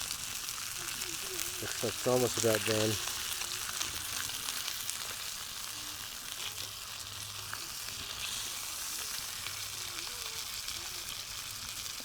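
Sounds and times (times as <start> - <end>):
fish sizzling: 0.0 - 12.0.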